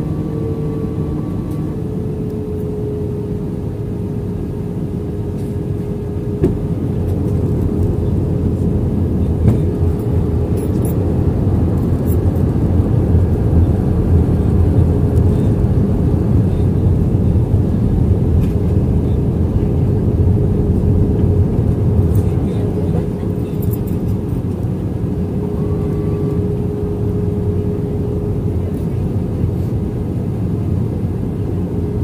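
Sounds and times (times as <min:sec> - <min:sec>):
airflow and engine rush: 0:00.0 - 0:32.0
faint steady hum: 0:00.0 - 0:32.0.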